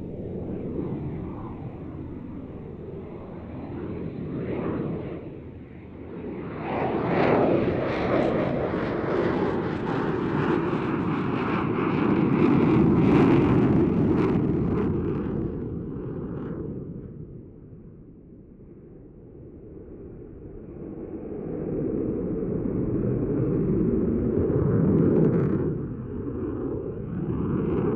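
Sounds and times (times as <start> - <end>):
jet engine rumble with crackle: 0.0 - 27.9.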